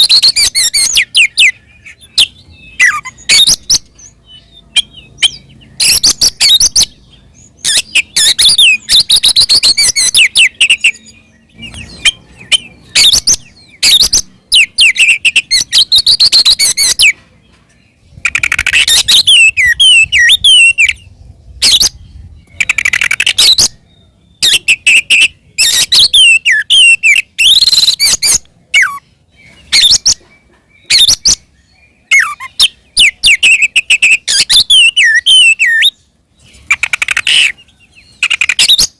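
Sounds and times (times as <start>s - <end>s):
songbird whistling and chattering: 0.0s - 17.2s, 18.0s - 38.9s.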